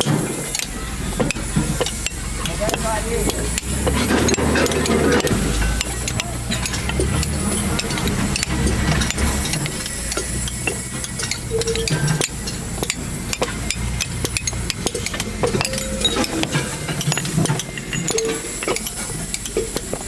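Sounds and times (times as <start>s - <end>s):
light metallic clicks and scraping: 0.0s - 20.0s.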